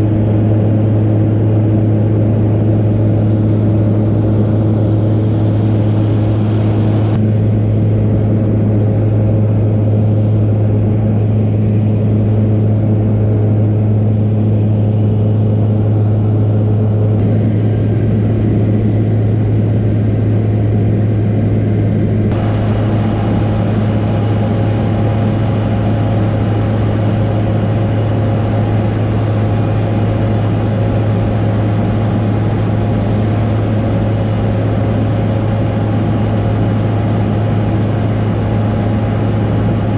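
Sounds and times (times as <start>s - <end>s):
light plane engine drone: 0.0s - 39.9s.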